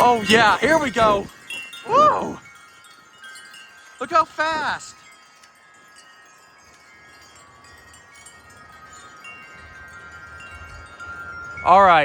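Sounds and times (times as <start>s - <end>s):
wind chimes ringing: 0.0s - 12.0s.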